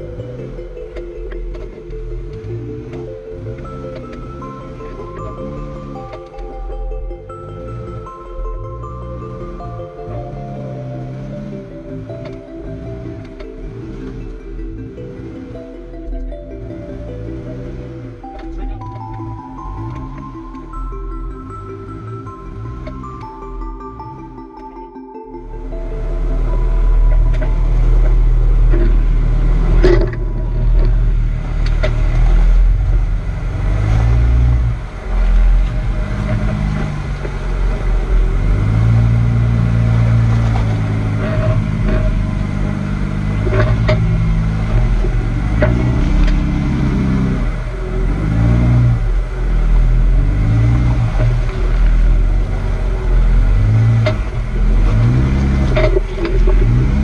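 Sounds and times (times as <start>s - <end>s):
engine revving: 0.0s - 24.7s, 25.4s - 57.0s.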